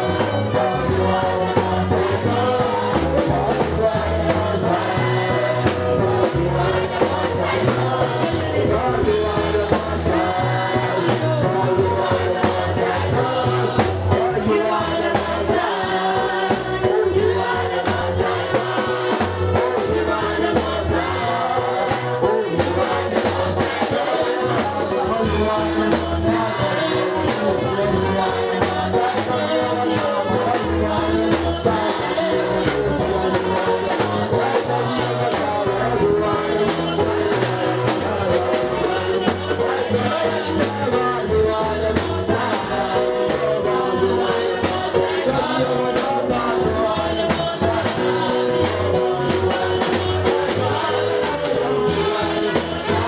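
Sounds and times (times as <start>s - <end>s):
band playing a steady beat: 0.0s - 53.0s
choir singing: 0.0s - 53.0s.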